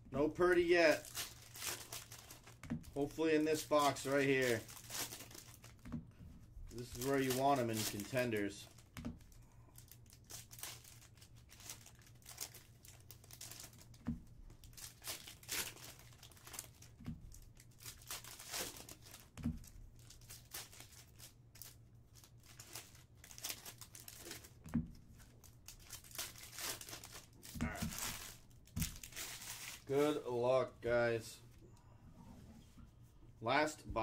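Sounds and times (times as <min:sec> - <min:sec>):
foil wrappers crinkling and tearing: 0:00.2 - 0:05.9, 0:06.7 - 0:30.2.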